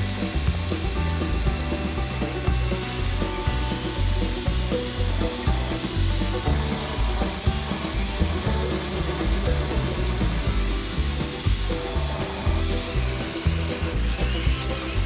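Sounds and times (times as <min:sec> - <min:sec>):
background music: 0:00.0 - 0:15.0
electric chainsaw cutting wood: 0:00.0 - 0:15.0.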